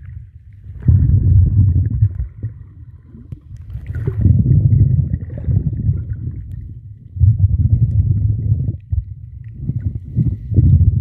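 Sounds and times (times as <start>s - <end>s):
muffled underwater rumbling: 0.0s - 11.0s.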